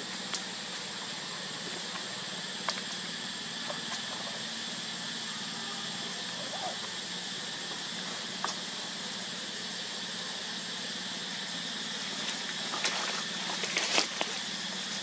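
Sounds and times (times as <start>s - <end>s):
high insect chorus: 0.0s - 15.0s.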